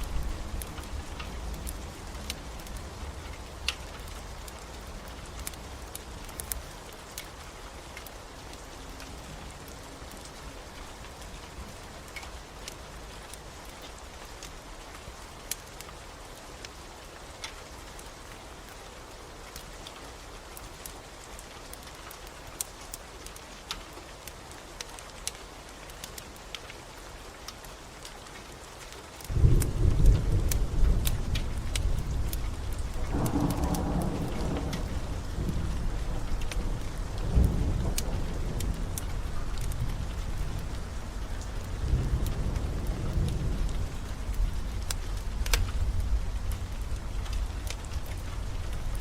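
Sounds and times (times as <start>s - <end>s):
steady rain: 0.0s - 49.0s
wood fire crackling: 0.0s - 49.0s.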